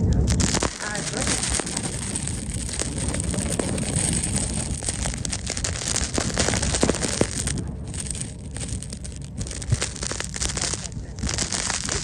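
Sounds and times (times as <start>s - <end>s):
dense crackling and rustling: 0.0s - 12.0s
low rumble of wind: 0.0s - 12.0s
slow-moving vehicle: 0.0s - 12.0s.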